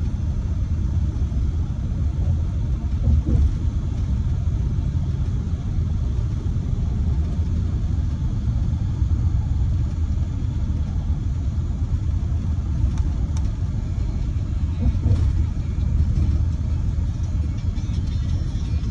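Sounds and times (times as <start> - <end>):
car tyre and engine rumble: 0.0 - 18.9.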